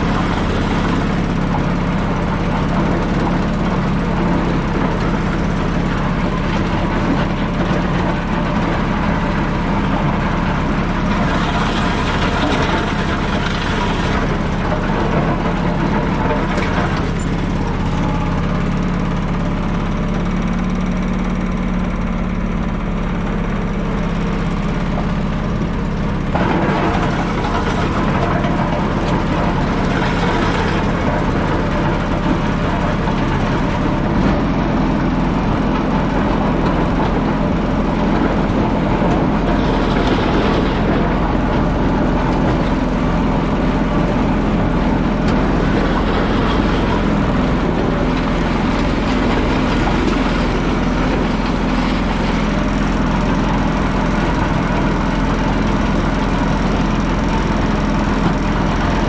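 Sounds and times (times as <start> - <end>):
vehicle engine and road noise: 0.0 - 59.0.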